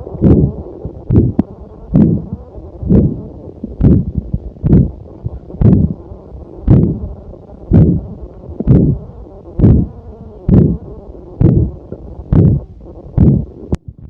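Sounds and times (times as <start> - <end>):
low rumble: 0.0 - 14.0
stomach growling: 0.0 - 14.0.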